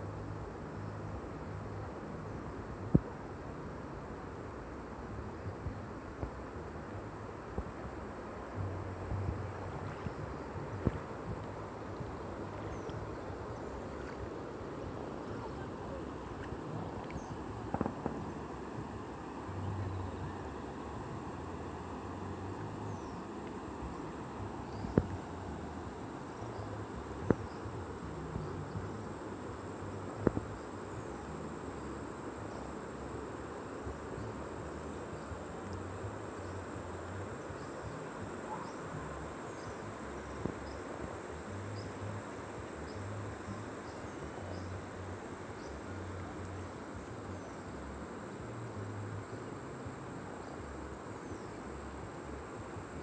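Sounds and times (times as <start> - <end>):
river flowing: 0.0 - 53.0
high-pitched insect chorus: 7.3 - 53.0.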